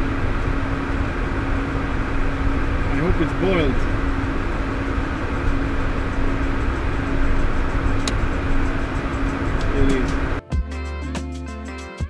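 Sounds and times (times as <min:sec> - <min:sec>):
jet cockpit airflow and engine drone: 0:00.0 - 0:11.8.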